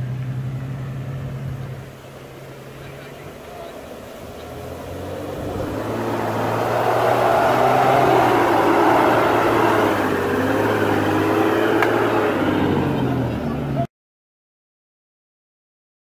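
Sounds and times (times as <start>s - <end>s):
vehicle engine under load: 0.0s - 13.9s.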